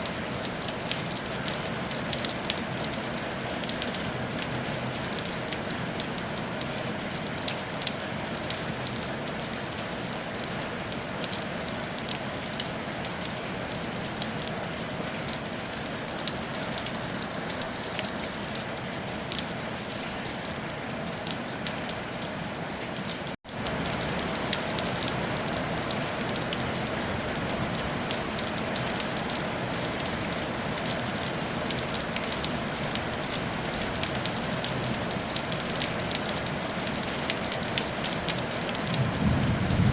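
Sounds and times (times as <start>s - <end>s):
rain falling on a tile roof: 0.0s - 39.9s.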